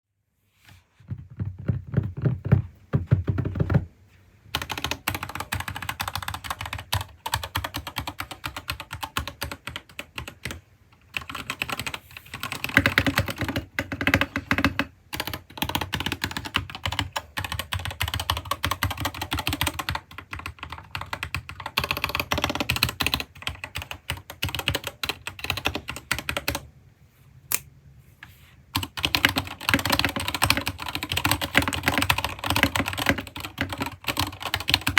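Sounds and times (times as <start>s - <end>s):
mechanical keyboard typing: 1.2s - 3.8s, 4.6s - 26.7s, 28.8s - 34.9s.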